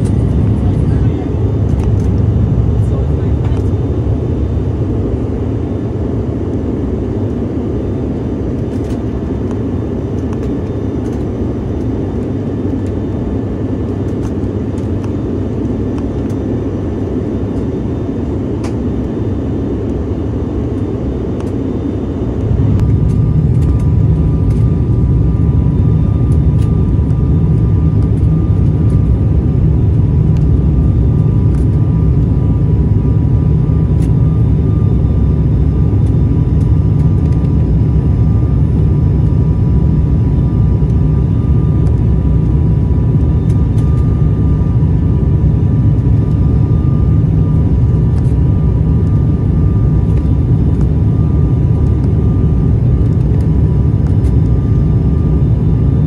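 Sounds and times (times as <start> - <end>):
airliner cabin engine rumble: 0.0 - 56.0
faint steady whine: 0.0 - 56.0.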